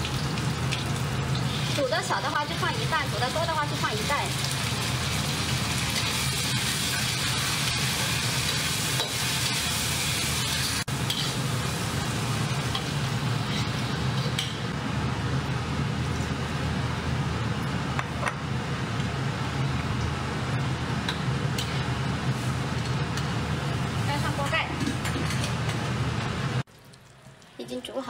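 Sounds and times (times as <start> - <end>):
meat sizzling in a wok: 0.0 - 16.8, 20.2 - 26.5.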